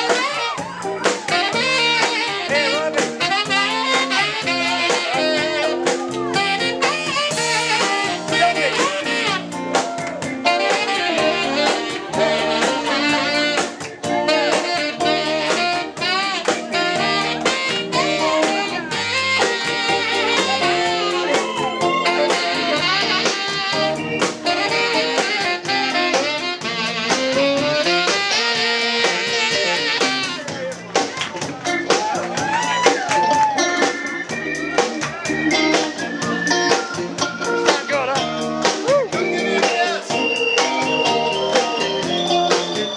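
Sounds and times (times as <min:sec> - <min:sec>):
drum kit: 0:00.0 - 0:42.9
electric bass guitar: 0:00.0 - 0:42.9
saxophone melody: 0:00.0 - 0:42.9.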